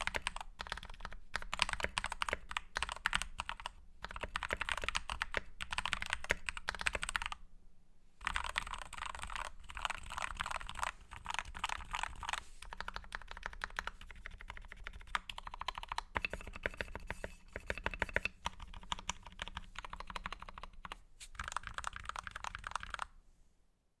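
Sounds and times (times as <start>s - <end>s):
mechanical keyboard typing: 0.0s - 7.4s, 8.2s - 23.1s.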